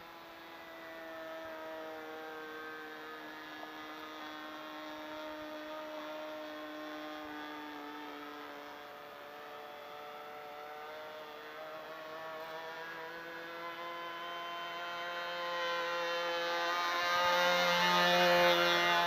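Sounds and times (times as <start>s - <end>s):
model airplane engine in flight: 0.0s - 19.0s.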